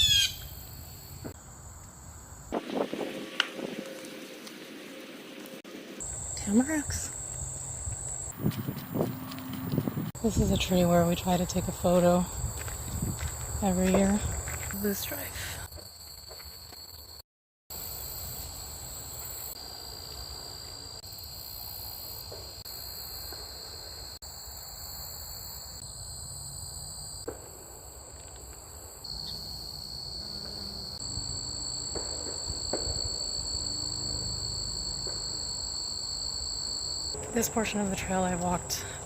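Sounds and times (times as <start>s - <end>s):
insects trilling: 0.0s - 17.2s, 17.8s - 39.0s.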